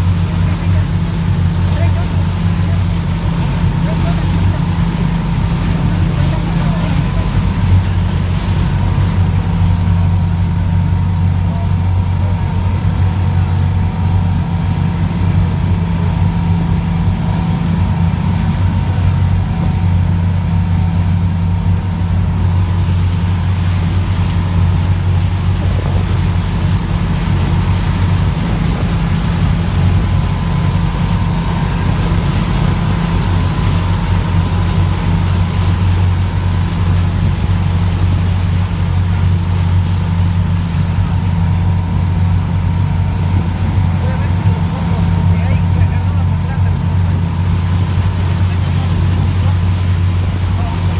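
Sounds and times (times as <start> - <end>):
boat engine humming: 0.0 - 50.9
wake water rushing: 0.0 - 50.9
wind: 0.0 - 50.9.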